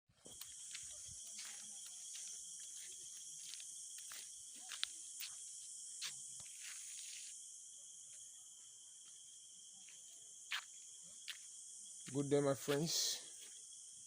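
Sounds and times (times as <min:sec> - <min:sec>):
insects singing hiss: 0:00.1 - 0:14.0.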